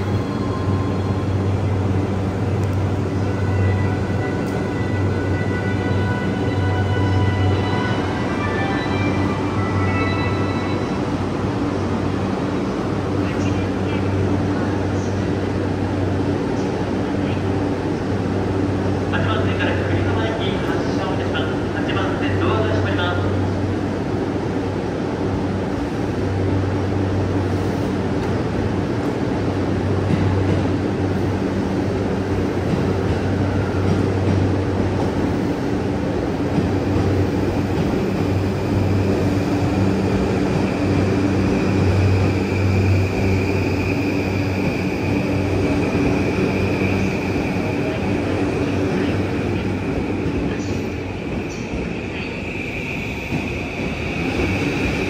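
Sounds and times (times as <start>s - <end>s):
train equipment humming: 0.0s - 55.0s
train inverter whine: 0.0s - 55.0s.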